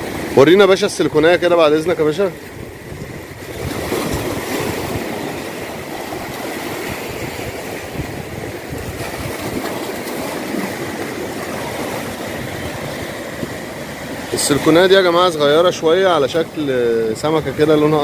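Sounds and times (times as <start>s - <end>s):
waves washing against rocks: 0.0s - 18.0s.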